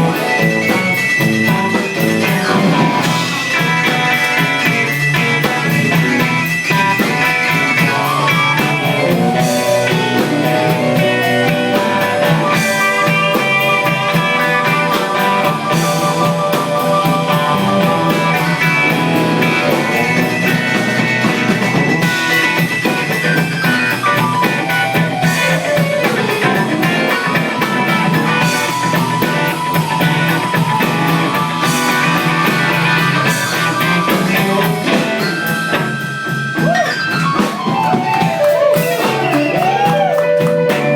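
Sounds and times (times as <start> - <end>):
cymbals keeping a beat: 0.0 - 40.9
live blues band playing: 0.0 - 40.9.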